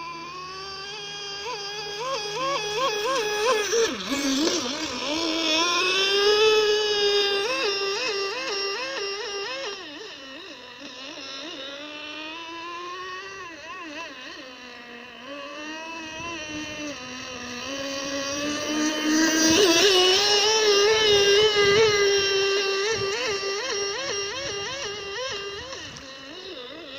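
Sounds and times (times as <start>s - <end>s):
model boat engine whining: 0.0s - 26.9s.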